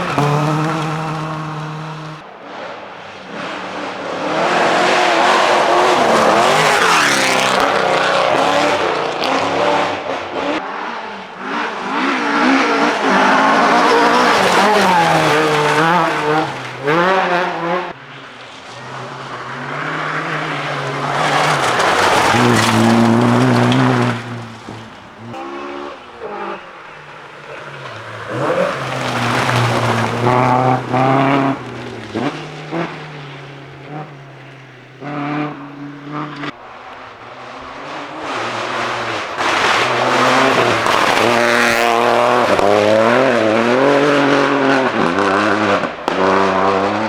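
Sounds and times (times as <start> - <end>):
rally car engine revving: 0.0 - 47.0.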